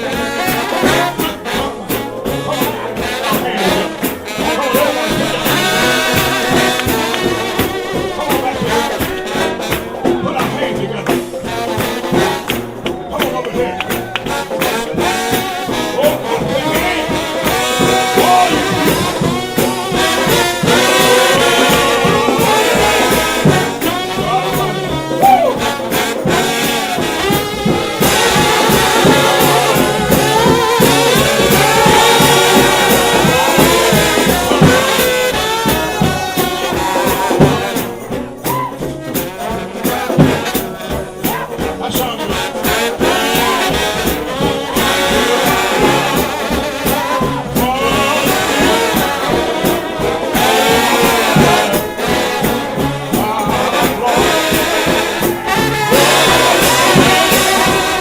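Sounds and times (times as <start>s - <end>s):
pulsing beat: 0.0s - 58.0s
trombone band playing: 0.0s - 58.0s.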